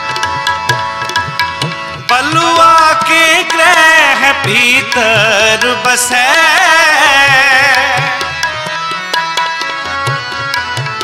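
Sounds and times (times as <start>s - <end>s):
harmonium drone: 0.0s - 11.0s
tabla: 0.0s - 11.0s.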